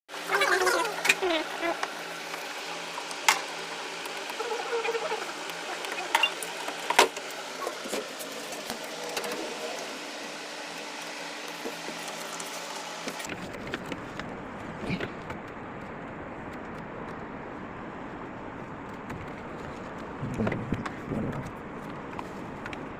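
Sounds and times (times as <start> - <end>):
fan motor humming: 0.1 - 22.9.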